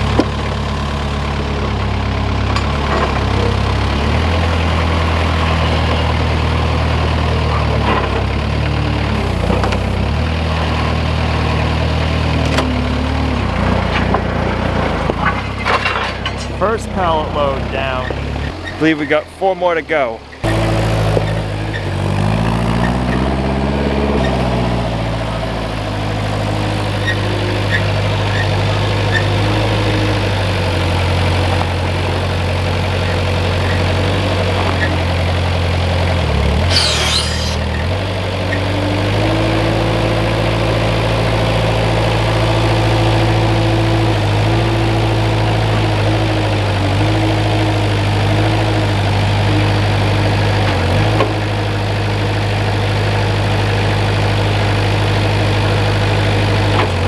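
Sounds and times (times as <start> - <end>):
forklift engine revving: 0.0 - 57.0.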